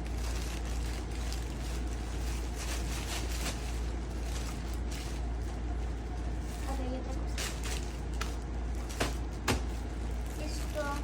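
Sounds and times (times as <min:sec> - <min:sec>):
plastic packaging rustling: 0:00.0 - 0:11.0.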